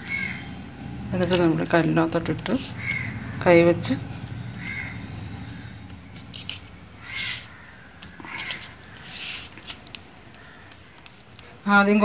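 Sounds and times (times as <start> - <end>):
bird calling: 0.0 - 11.0.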